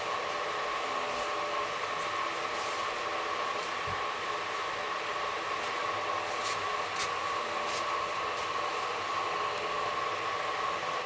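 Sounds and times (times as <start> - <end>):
air conditioning hiss: 0.0 - 11.0.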